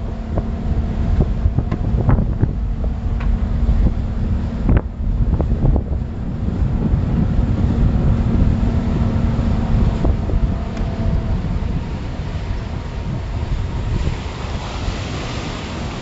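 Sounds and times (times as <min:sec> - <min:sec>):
outboard motor droning: 0:00.0 - 0:16.0
wind buffeting microphone: 0:00.0 - 0:16.0.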